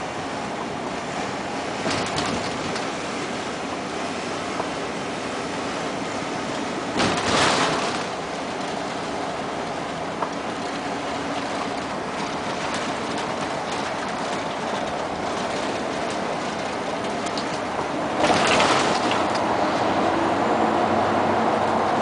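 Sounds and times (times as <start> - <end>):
vehicle road and engine noise: 0.0 - 22.0.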